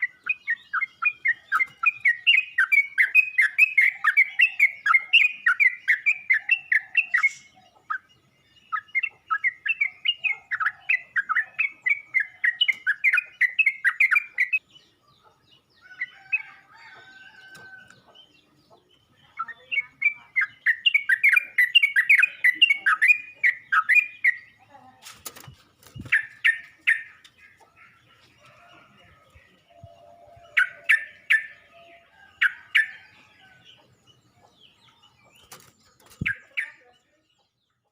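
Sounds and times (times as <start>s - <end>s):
bird chirping: 0.0s - 37.9s.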